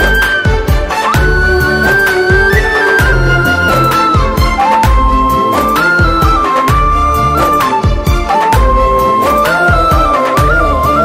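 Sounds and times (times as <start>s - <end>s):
drum beat: 0.0s - 10.7s
bass: 0.0s - 11.0s
sustained melody line: 0.0s - 11.0s.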